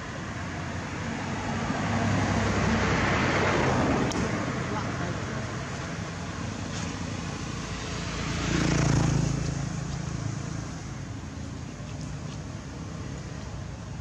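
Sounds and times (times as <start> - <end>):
motor vehicle passing by: 1.1 - 13.8.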